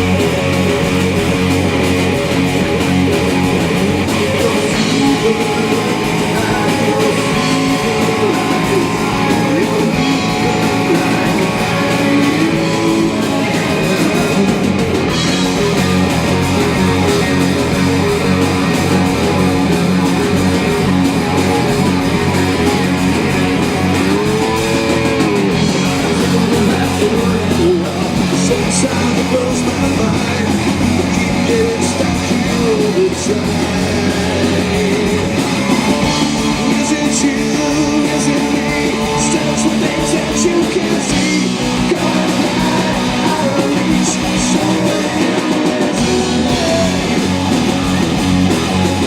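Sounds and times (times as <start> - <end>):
guitar bending notes: 0.0 - 49.0
live rock band playing: 0.0 - 49.0.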